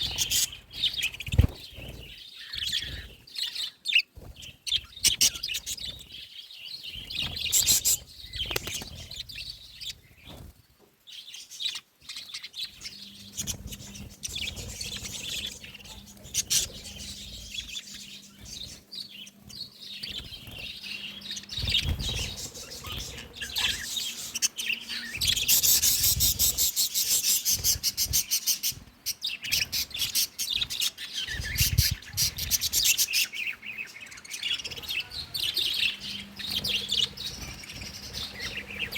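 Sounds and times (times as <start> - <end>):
budgies chirping and chattering: 0.0 - 10.5, 11.1 - 38.9.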